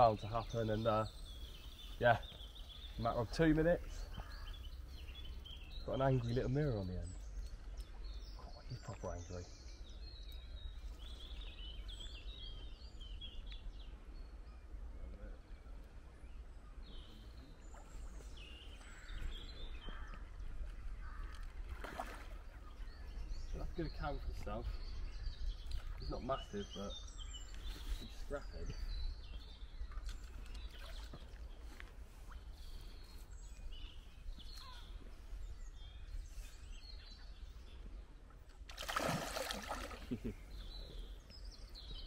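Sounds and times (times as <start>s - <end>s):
small birds singing and chirping: 0.0s - 42.0s.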